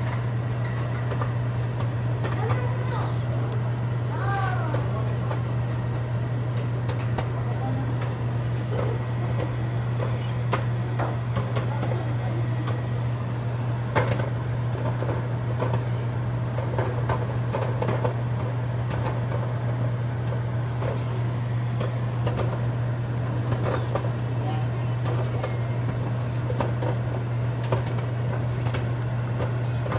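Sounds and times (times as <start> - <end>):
microwave oven humming: 0.0 - 29.9.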